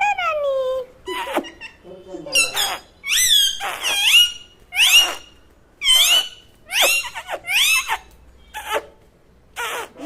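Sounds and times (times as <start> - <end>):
parrot calling: 0.1 - 10.0.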